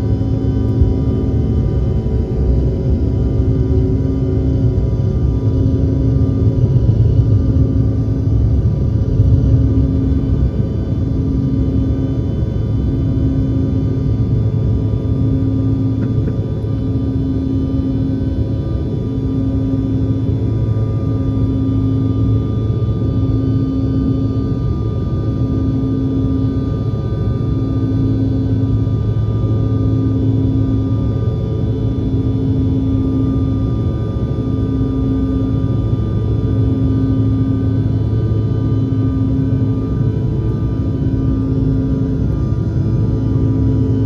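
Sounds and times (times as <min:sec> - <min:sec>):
jet engines at takeoff power: 0:00.0 - 0:44.0.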